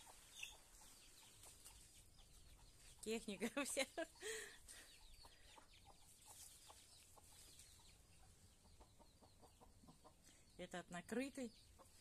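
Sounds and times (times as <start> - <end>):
chickens clucking: 0.0 - 10.5, 11.4 - 12.0.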